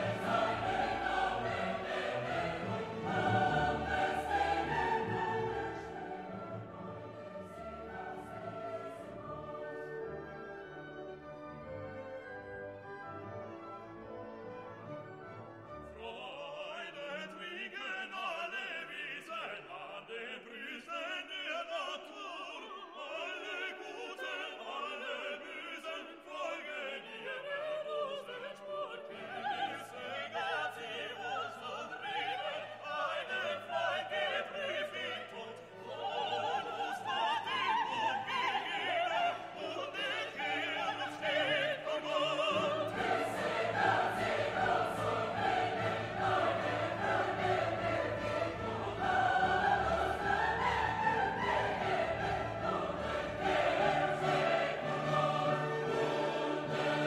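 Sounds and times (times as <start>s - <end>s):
operatic singing with orchestra: 0.0s - 57.0s.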